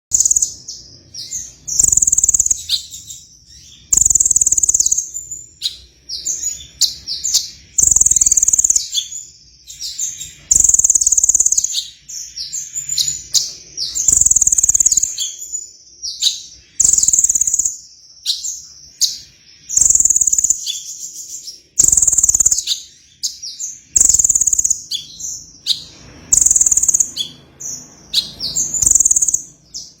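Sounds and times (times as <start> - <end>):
soft bird chirps and twitters: 0.0 - 30.0
sunbird singing: 0.0 - 30.0.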